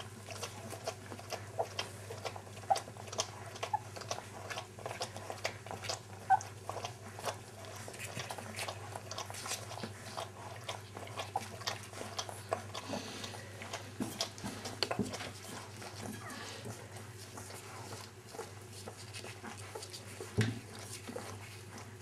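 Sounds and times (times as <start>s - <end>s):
pets crunching food: 0.0s - 22.0s.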